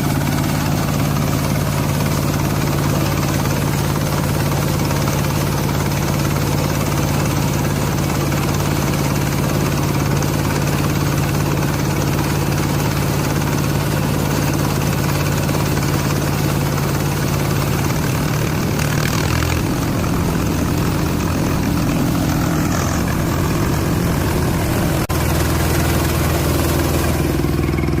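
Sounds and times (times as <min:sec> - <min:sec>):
harvester diesel engine running: 0:00.0 - 0:28.0.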